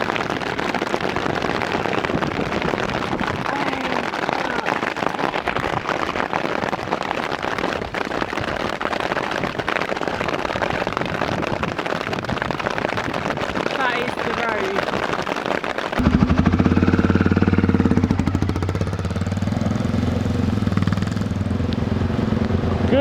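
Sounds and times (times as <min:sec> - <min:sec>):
heavy rain drumming: 0:00.0 - 0:23.0.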